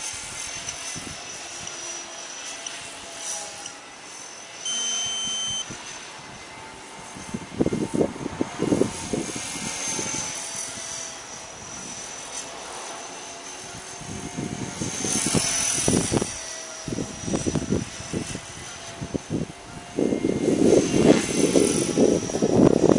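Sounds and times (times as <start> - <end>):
wind buffeting microphone: 0.0 - 1.8, 5.5 - 22.9
rc helicopter motor whine: 0.0 - 22.9.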